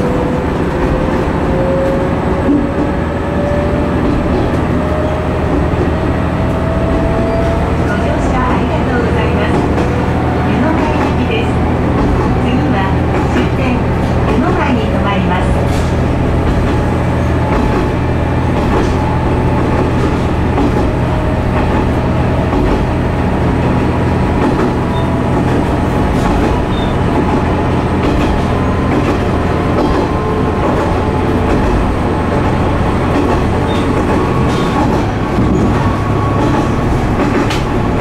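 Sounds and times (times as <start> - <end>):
railcar engine drone: 0.0 - 38.0
wheels rumbling on rails: 0.0 - 38.0.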